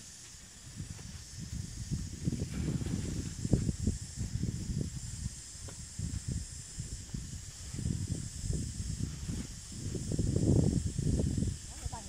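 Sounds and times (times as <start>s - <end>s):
steady high hiss: 0.0s - 12.0s
wind rumbling on microphone: 0.0s - 12.0s.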